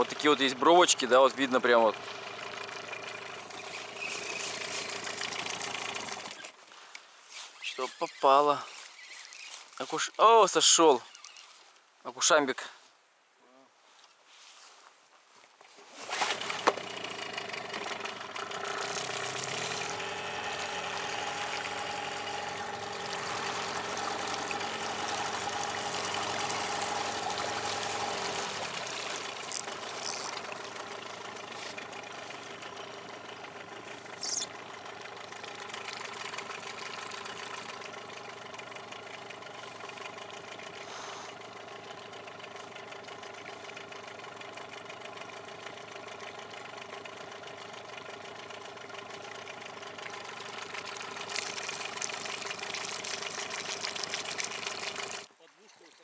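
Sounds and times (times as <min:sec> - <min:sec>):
outboard motor droning: 0:00.0 - 0:06.6, 0:15.8 - 0:55.3.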